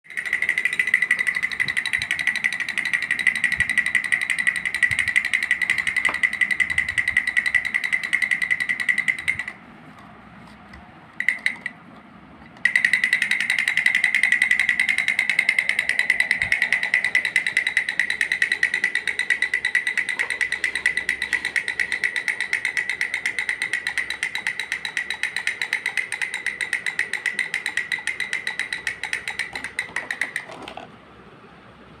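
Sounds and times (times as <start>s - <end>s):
sound toy high-pitched pulsing buzz: 0.1s - 9.6s, 12.6s - 30.6s.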